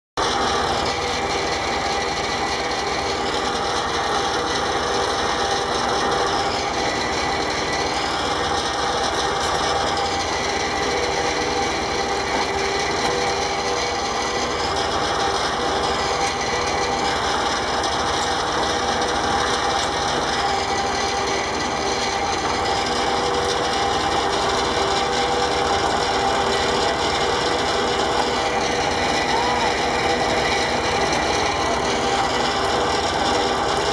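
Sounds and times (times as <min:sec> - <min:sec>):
saw blade cutting log: 0:00.2 - 0:33.9
tractor engine running: 0:00.2 - 0:33.9.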